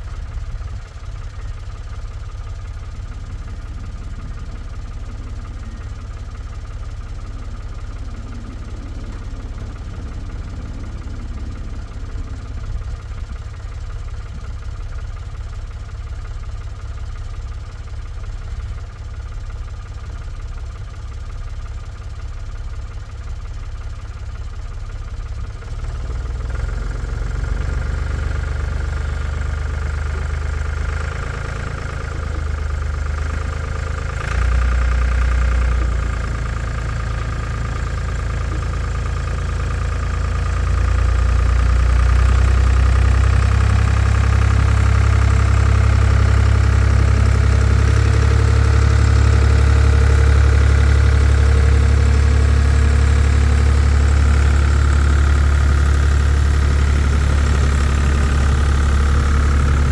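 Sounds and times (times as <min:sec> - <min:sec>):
vehicle engine rumbling: 0:00.0 - 0:15.4, 0:26.2 - 0:59.9.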